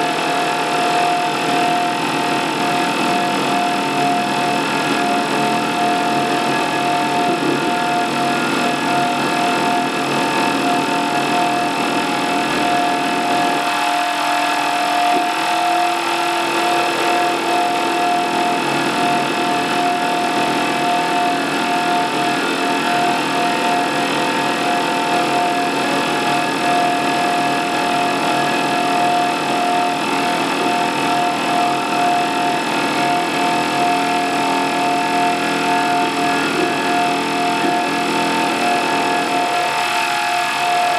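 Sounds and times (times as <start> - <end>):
electronic drone of held tones: 0.0 - 40.9.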